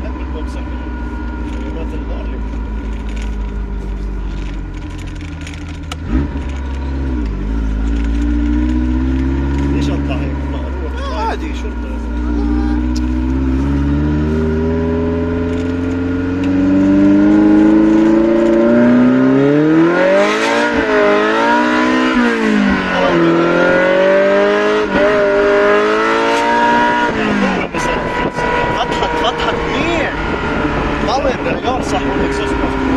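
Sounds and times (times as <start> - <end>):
car engine accelerating: 0.0 - 32.9.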